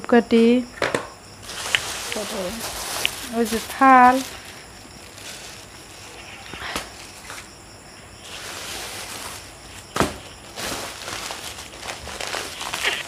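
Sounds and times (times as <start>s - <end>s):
plastic bags crinkling: 1.4s - 7.5s, 8.2s - 13.0s.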